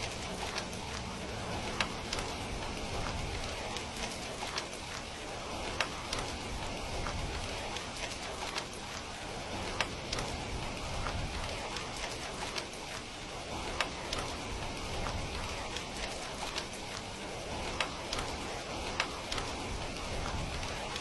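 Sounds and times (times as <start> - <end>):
steady rain falling: 0.0 - 21.0
wood fire crackling: 0.0 - 21.0.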